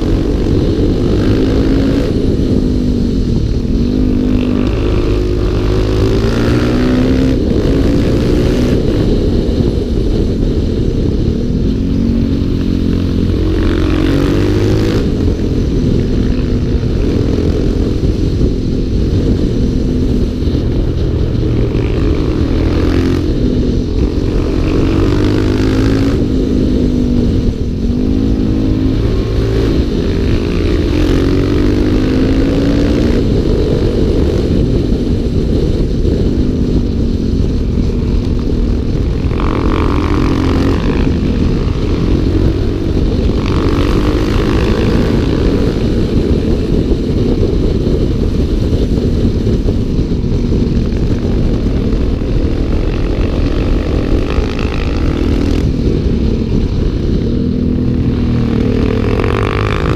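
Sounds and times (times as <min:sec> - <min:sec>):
motorcycle engine revving: 0:00.0 - 0:59.9
wind rumble on microphone: 0:00.0 - 0:59.9.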